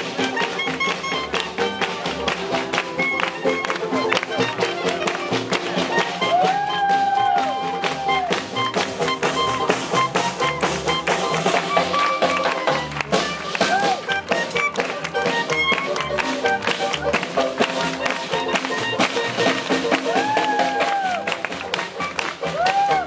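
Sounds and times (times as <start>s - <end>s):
banjo: 0.0s - 23.0s
clarinet: 0.0s - 23.0s
snare drum: 0.0s - 23.0s
swing band playing: 0.0s - 23.0s
upright bass: 0.0s - 23.0s.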